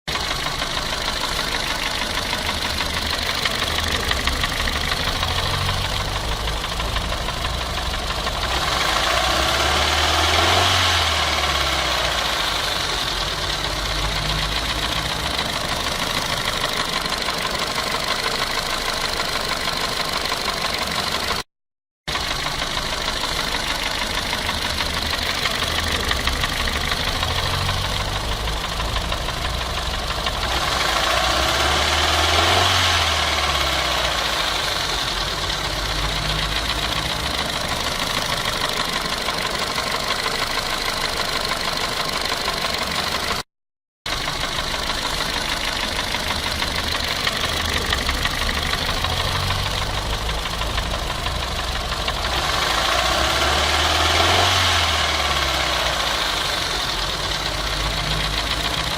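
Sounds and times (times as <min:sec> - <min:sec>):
car engine revving: 0:00.1 - 0:21.4, 0:22.1 - 0:43.4, 0:44.1 - 0:58.9.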